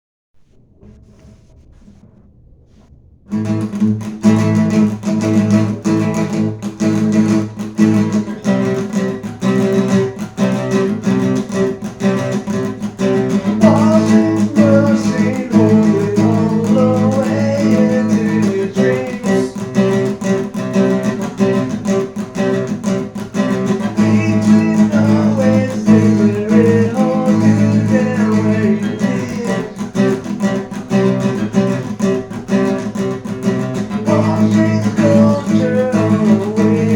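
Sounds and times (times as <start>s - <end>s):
acoustic guitar strumming: 3.3s - 36.9s.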